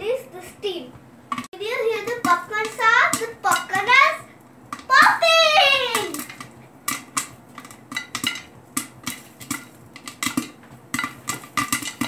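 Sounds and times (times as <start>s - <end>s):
popcorn popping: 1.2s - 12.0s
kernels knocking against pot: 1.3s - 5.2s, 5.9s - 12.0s.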